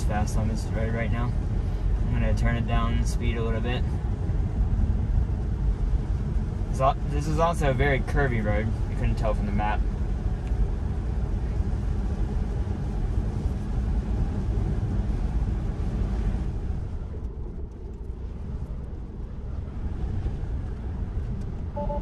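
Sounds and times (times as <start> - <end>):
road and tyre noise on wet road: 0.0 - 22.0.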